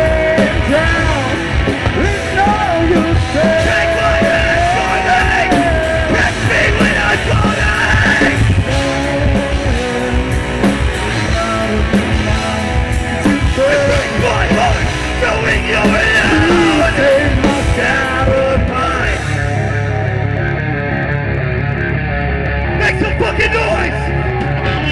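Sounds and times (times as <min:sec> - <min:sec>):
electric bass: 0:00.0 - 0:24.9
electric guitars: 0:00.0 - 0:24.9.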